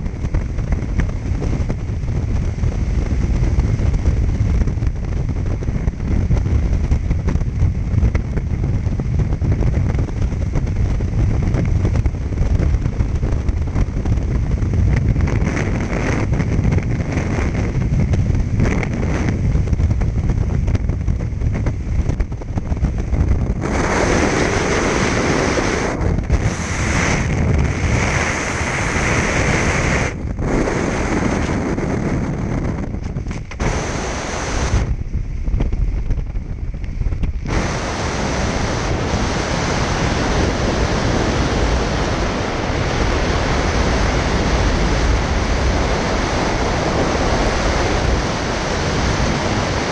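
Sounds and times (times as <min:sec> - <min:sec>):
wind rushing on microphone: 0:00.0 - 0:49.9.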